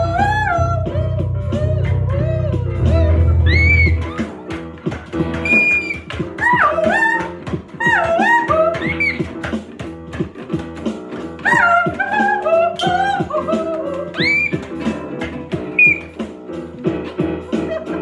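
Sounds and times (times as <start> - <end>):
plucked guitar-like backing: 0.0 - 18.0.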